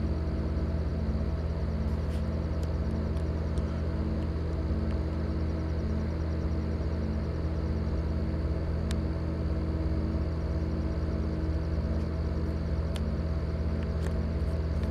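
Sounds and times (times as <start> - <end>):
faint regular throb: 0.0 - 14.9
low industrial drone: 0.0 - 14.9.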